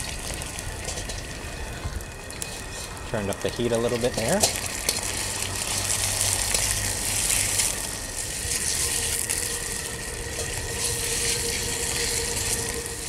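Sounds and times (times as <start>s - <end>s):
chicken sizzling in hot oil: 0.0s - 13.0s
gas burner rushing: 0.0s - 13.0s
metal spatula scraping wok: 2.3s - 13.0s.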